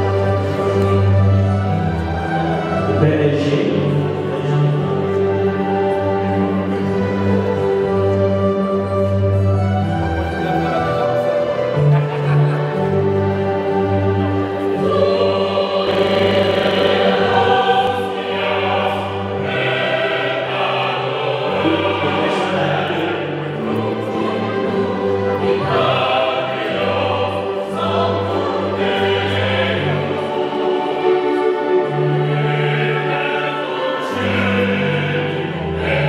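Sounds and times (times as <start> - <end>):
choir singing: 0.0 - 36.0
held low instrumental notes: 0.0 - 36.0.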